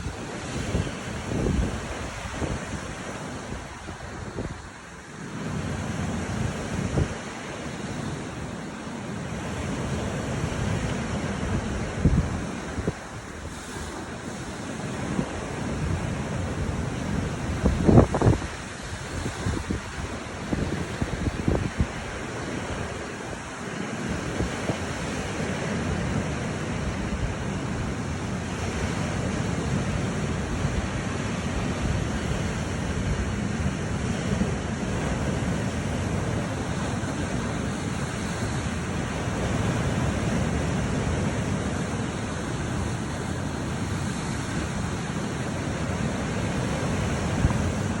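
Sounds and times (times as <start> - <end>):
wind rumbling on microphone: 0.0 - 8.6, 9.2 - 48.0
waves breaking on shore: 0.0 - 48.0.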